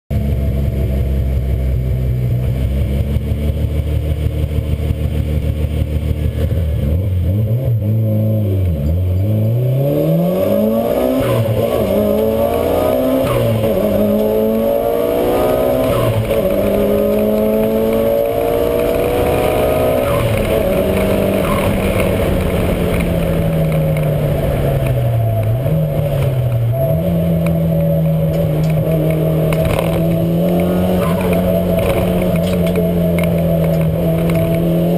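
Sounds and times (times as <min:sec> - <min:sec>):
car engine revving through gears: 0:00.1 - 0:34.9.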